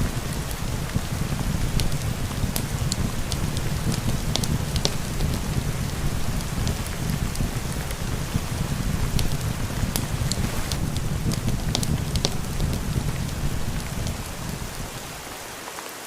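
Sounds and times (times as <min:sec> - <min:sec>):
wood fire crackling: 0:00.0 - 0:15.8
steady rain: 0:00.0 - 0:16.0.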